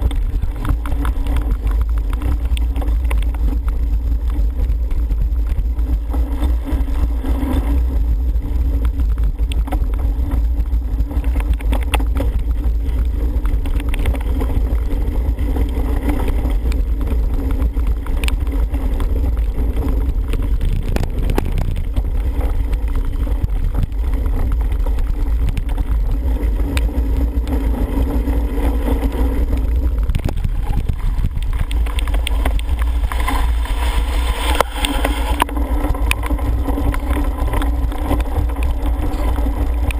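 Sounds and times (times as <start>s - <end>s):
bike clicks and rattles: 0.0s - 39.9s
tyres rumbling over dirt: 0.0s - 39.9s
wind on microphone: 0.0s - 39.9s.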